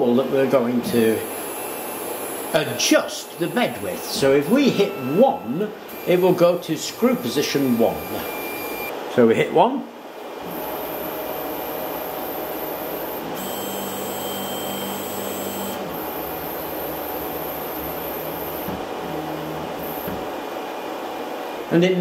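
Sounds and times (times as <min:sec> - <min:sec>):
three d printer whirring: 0:00.0 - 0:08.9, 0:10.2 - 0:21.7.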